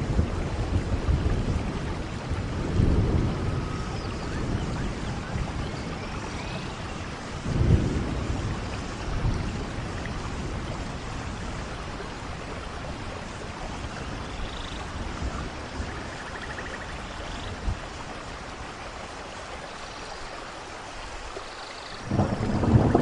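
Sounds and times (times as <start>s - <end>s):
distant thunder rumble: 0.0s - 18.6s, 22.0s - 23.0s
steady rainfall: 0.0s - 23.0s.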